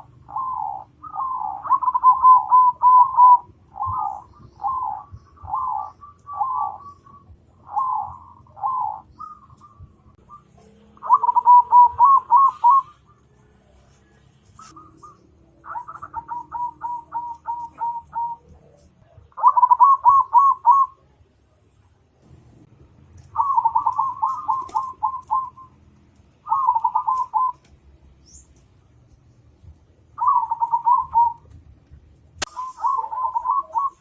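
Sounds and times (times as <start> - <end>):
bird calling: 0.0 - 21.0, 23.2 - 28.6, 30.1 - 31.6, 32.4 - 34.0.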